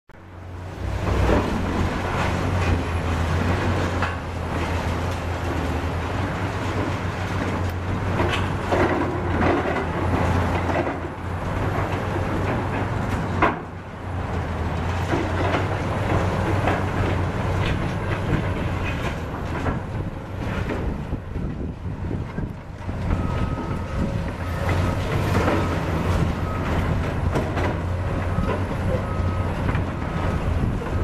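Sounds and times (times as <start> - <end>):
excavator diesel drone: 0.2 - 31.0.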